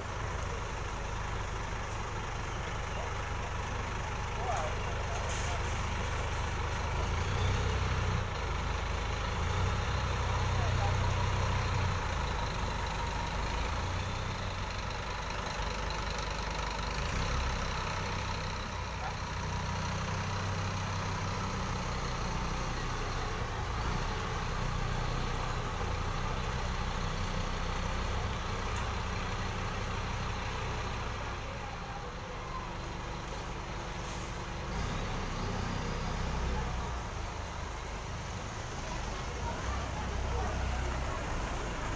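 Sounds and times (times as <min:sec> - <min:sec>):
diesel bus engine at low revs: 0:00.0 - 0:41.9.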